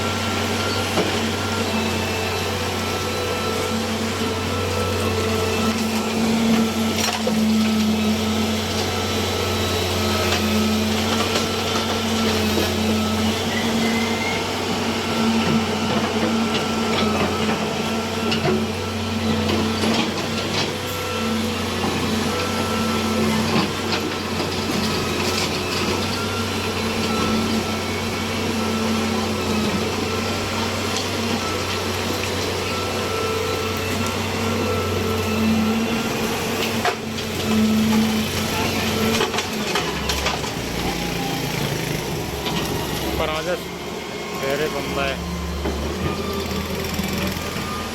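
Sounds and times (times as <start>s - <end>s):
machine whining tone: 0.0s - 47.9s
road cutting machine motor hum: 0.0s - 47.9s.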